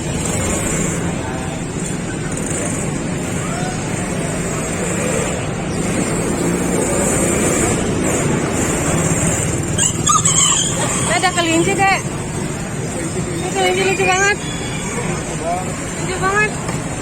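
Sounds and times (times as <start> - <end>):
traffic-like rumble: 0.0 - 17.0.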